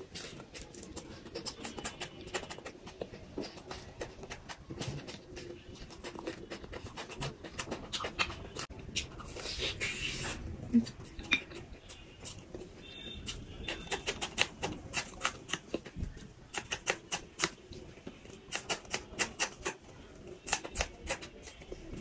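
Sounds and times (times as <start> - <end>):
chewing crispy pastry: 0.0 - 22.0.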